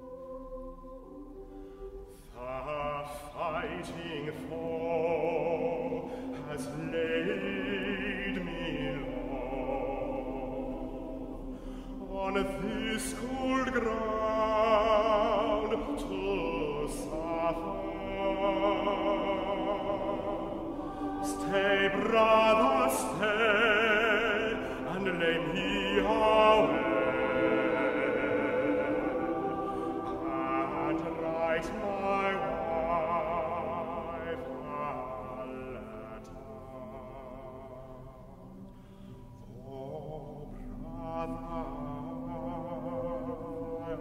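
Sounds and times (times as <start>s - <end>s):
choir singing with reverberation: 0.0s - 44.0s.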